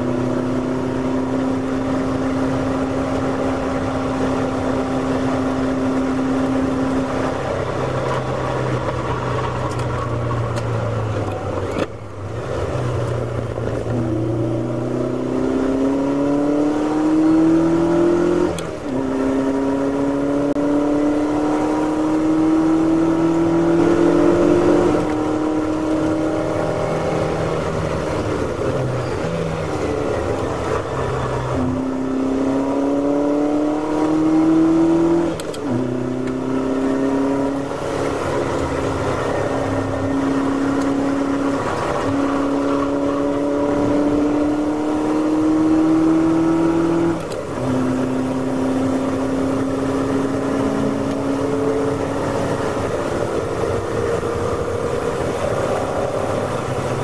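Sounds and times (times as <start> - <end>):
race car engine pulling under load: 0.0 - 57.0.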